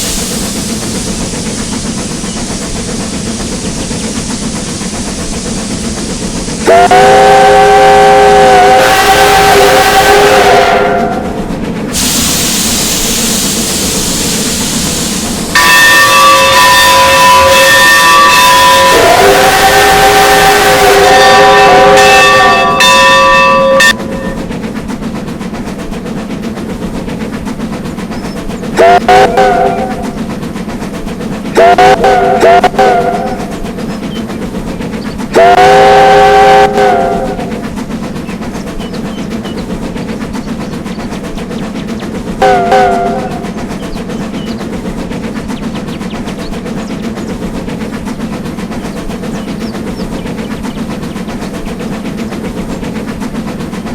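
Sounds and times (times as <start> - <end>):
locomotive whistle: 0.0 - 11.4, 12.0 - 24.5, 28.2 - 30.4, 31.5 - 51.3
train running: 0.0 - 53.9.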